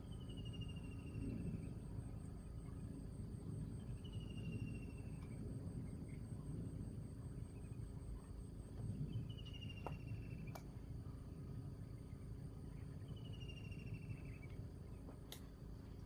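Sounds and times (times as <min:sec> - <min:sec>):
high insect drone: 0:00.0 - 0:16.0
low rumbling background: 0:00.0 - 0:16.0.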